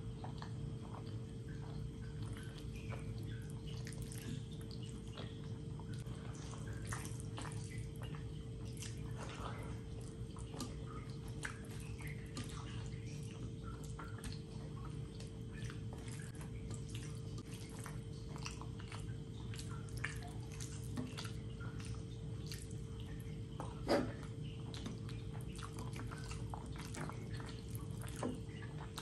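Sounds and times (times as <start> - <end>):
close-up chewing: 0.0 - 29.0.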